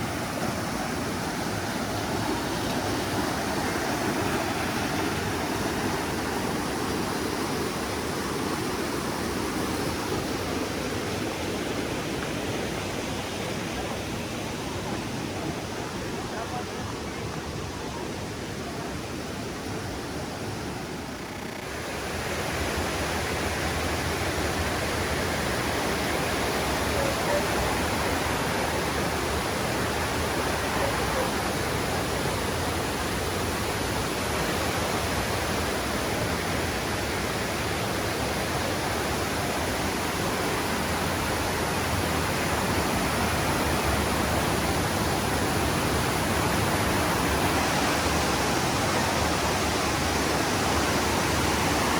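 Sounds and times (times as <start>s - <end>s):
water rushing: 0.0s - 51.9s.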